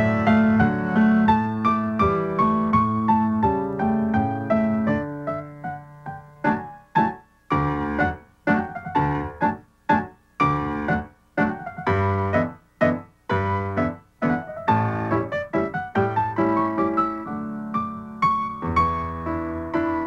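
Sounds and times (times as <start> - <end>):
piano chords: 0.0 - 20.0.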